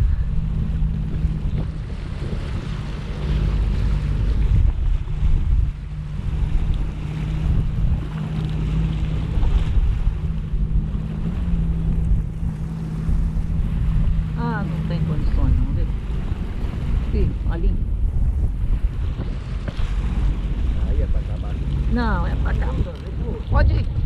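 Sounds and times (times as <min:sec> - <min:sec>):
jet ski engine running: 0:00.0 - 0:24.0
water rushing past hull: 0:00.0 - 0:24.0
wind buffeting microphone: 0:00.0 - 0:24.0.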